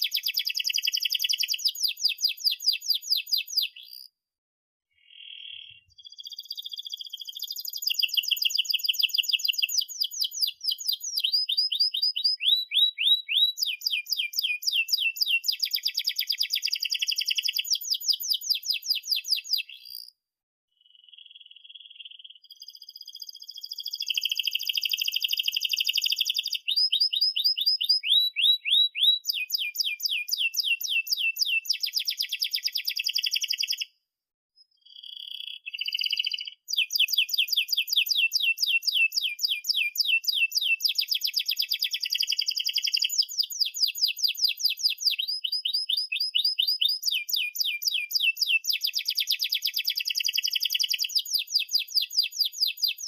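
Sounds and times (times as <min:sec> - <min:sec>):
canary singing trills: 0:00.0 - 0:04.1, 0:04.9 - 0:20.1, 0:20.8 - 0:33.9, 0:34.6 - 0:53.0.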